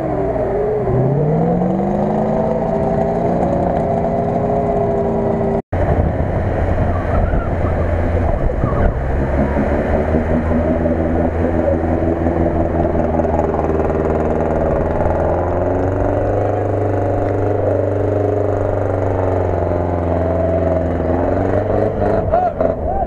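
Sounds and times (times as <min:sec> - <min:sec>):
engine revving high: 0:00.0 - 0:05.6, 0:06.6 - 0:23.0
wheels spinning in mud: 0:00.8 - 0:05.6, 0:06.2 - 0:22.2.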